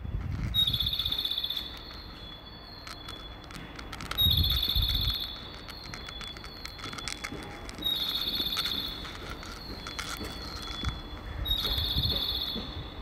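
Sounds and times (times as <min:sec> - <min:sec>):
recorded bird chirps over speaker: 0:00.0 - 0:13.0.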